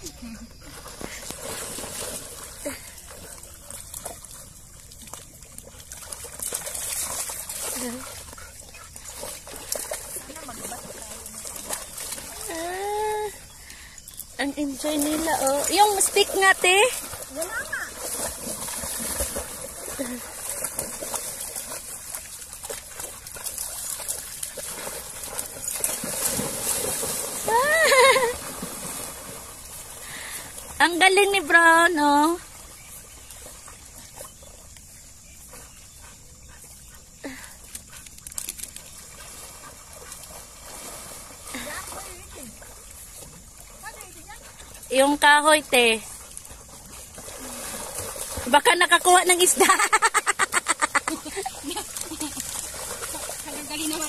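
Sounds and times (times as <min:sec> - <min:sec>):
water sloshing around wading dogs: 0:00.0 - 0:54.0.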